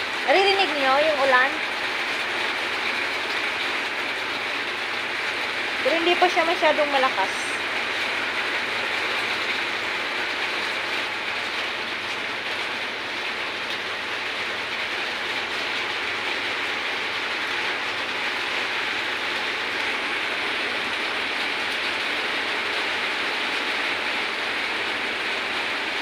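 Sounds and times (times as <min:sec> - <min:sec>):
light rain hissing: 0:00.0 - 0:26.0.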